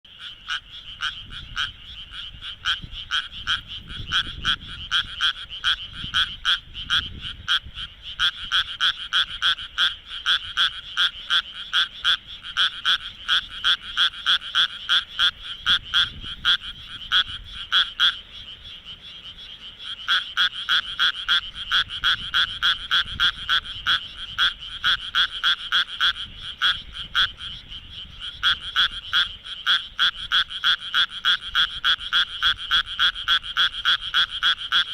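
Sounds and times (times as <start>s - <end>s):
tree frog rasping croaks: 0.1s - 34.9s.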